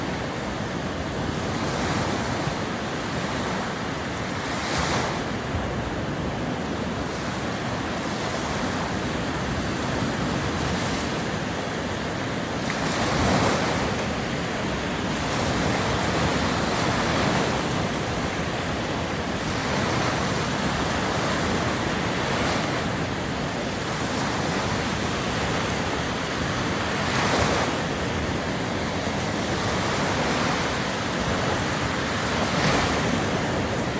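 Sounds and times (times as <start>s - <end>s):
surf rushing: 6.6s - 33.9s.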